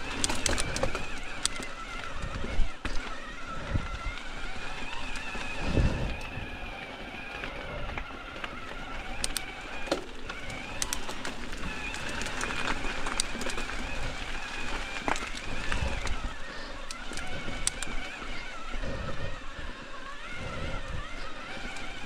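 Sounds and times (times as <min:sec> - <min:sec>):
bike tyre and drivetrain noise: 0:00.0 - 0:22.0
sharp clicks and rattles: 0:00.0 - 0:22.0.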